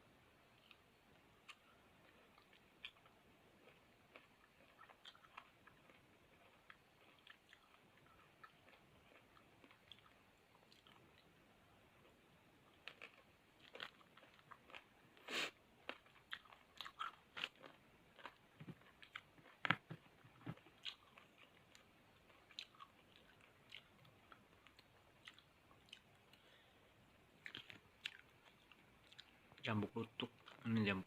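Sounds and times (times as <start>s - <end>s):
person chewing crisp fruit: 0.5s - 26.7s, 27.3s - 31.0s.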